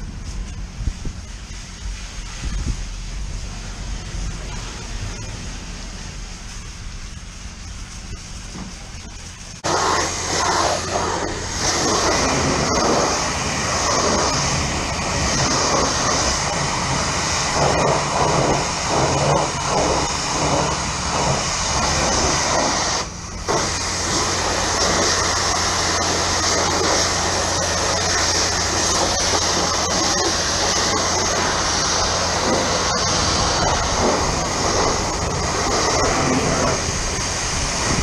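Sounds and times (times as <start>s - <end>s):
pressure washer spraying: 0.0s - 38.0s.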